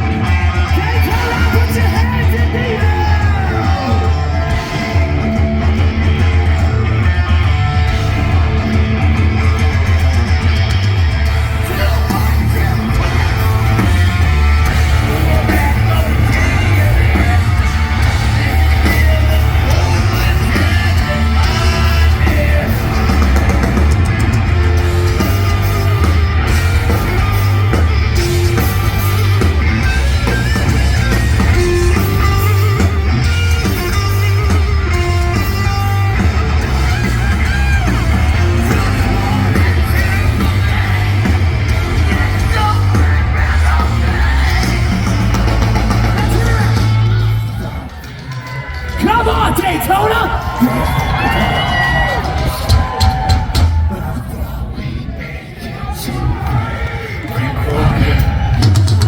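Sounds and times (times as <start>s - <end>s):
rock band playing live: 0.0s - 55.2s, 55.9s - 59.0s
shouted and sung vocals: 0.0s - 59.0s.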